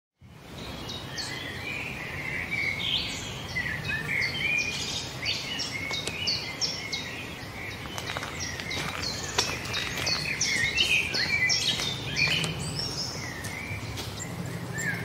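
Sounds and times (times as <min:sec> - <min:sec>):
birds chirping and whistling: 0:00.3 - 0:15.0.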